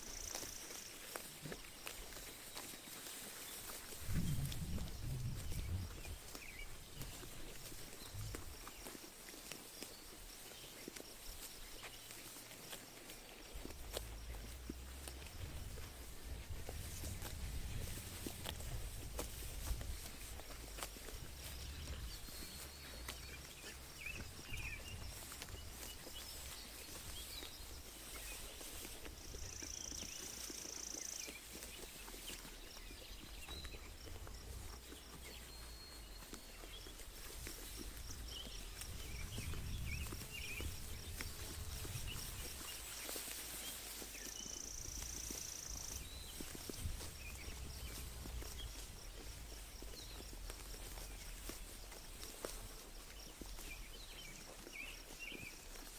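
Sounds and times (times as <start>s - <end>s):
sheep tearing and chewing grass: 0.0s - 55.9s
small birds chirping: 0.0s - 55.9s.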